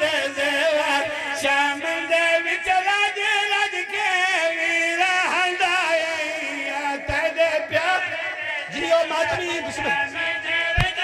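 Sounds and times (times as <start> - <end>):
man chanting through microphone: 0.0 - 11.0.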